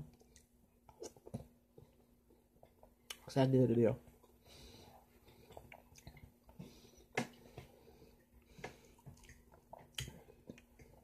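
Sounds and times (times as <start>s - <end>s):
wet chewing and smacking: 0.0s - 3.3s, 4.1s - 11.0s.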